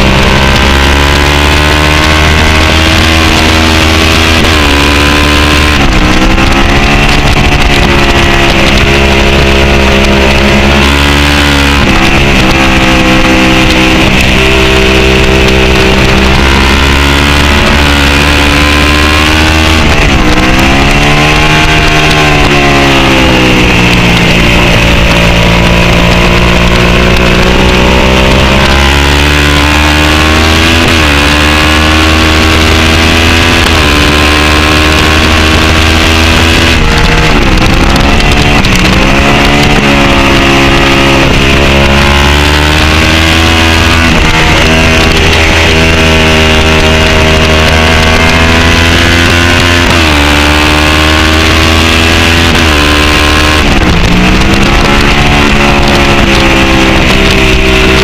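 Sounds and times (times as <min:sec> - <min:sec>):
sport bike engine revving: 0:00.0 - 0:58.0
wind noise on camera: 0:00.0 - 0:58.0.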